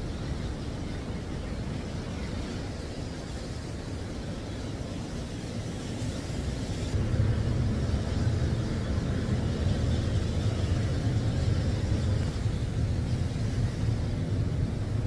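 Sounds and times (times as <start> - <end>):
spray hissing: 2.4 - 14.8.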